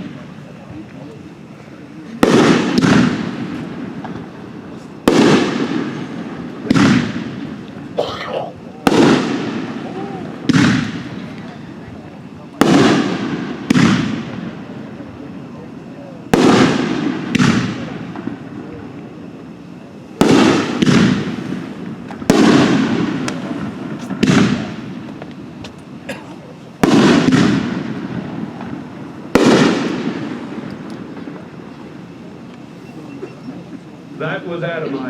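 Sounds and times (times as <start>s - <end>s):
fireworks booming: 0.0s - 34.7s
faint fireworks crackles: 0.0s - 35.0s.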